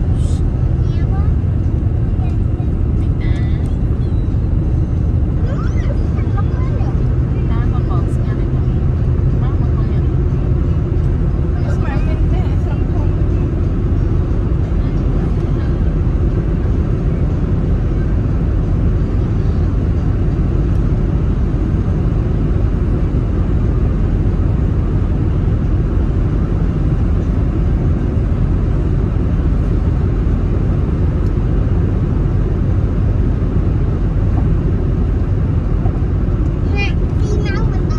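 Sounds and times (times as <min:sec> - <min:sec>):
car tyre and engine rumble: 0:00.0 - 0:37.9.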